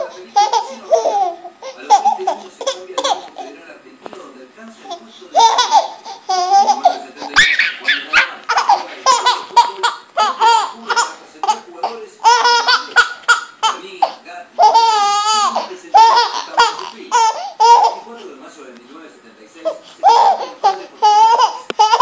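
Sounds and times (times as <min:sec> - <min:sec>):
baby laughing: 0:00.0 - 0:03.7, 0:04.8 - 0:18.2, 0:19.6 - 0:22.0.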